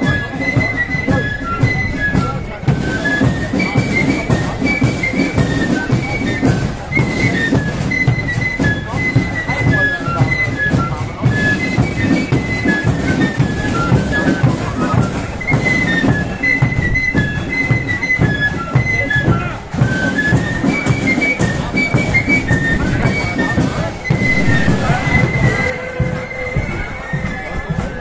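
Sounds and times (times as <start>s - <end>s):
sharp drum beats: 0.0s - 27.9s
flute band playing: 0.0s - 28.0s.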